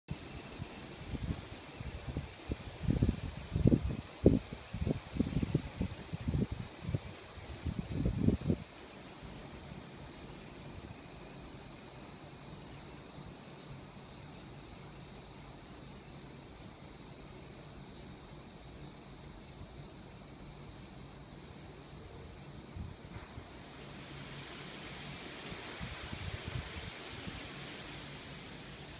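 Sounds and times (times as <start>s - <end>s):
insects singing: 0.1s - 28.9s.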